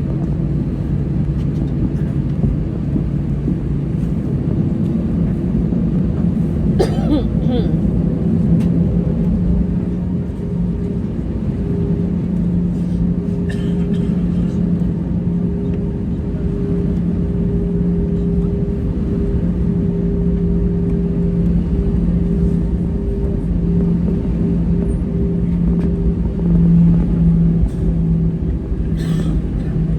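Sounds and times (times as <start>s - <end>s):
airplane cabin engine rumble: 0.0s - 29.9s.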